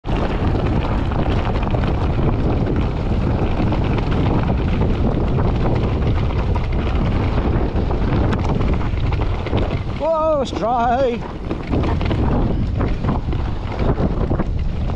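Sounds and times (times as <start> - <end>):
bike rattling over stones: 0.0 - 14.9
tyre rumble: 0.0 - 14.9
wind rushing over microphone: 0.0 - 14.9.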